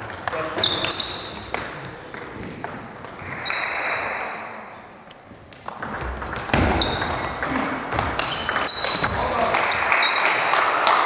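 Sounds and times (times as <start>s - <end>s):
table tennis ball hitting bats and table: 0.0s - 11.0s.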